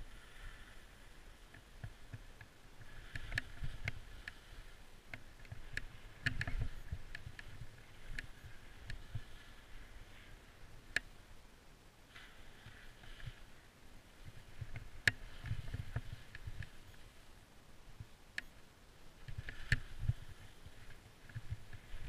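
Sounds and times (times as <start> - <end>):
skis scraping over snow: 0.0 - 10.8, 12.1 - 17.3, 19.2 - 22.0.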